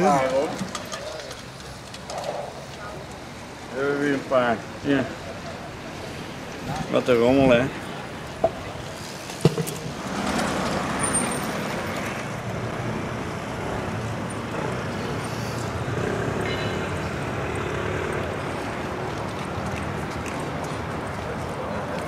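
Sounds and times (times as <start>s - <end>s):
passing cars rushing: 0.0s - 22.0s.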